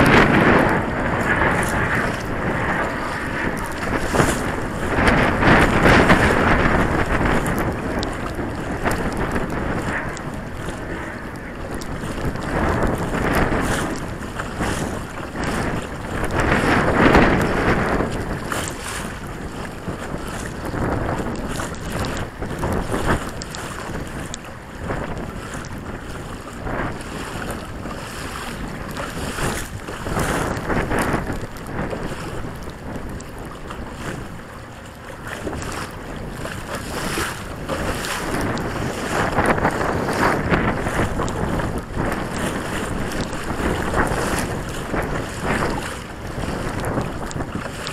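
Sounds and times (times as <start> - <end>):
waves slapping against hull: 0.0 - 47.9
wind buffeting microphone: 0.0 - 47.9.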